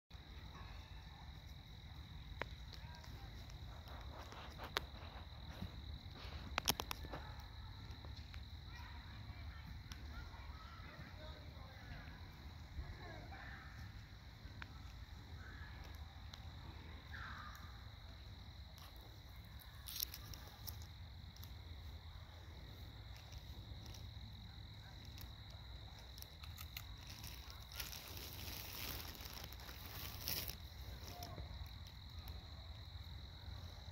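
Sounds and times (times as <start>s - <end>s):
rustling in grass and leaves: 0.2s - 33.9s.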